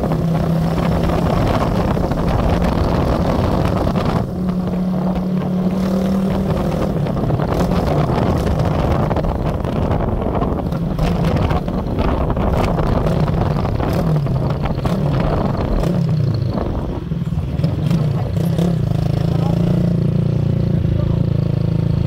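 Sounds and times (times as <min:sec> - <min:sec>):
car engine running: 0:00.0 - 0:19.6
road and wind noise: 0:00.0 - 0:22.0.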